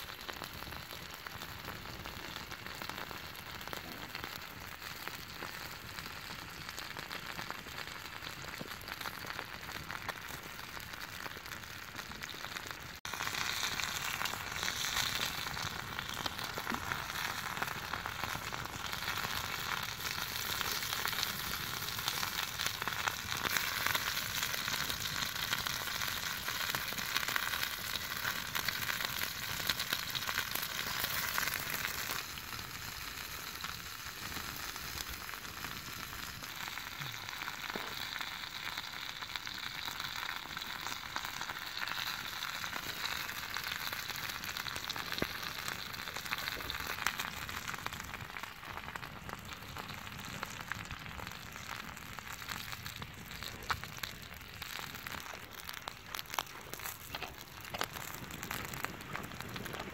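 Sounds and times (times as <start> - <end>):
chicken wings sizzling on hot stone: 0.0 - 59.9.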